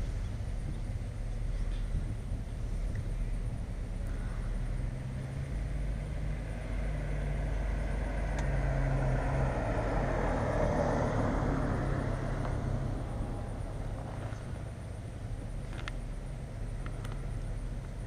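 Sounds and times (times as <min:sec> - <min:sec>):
vehicle motor running: 0:00.0 - 0:18.0.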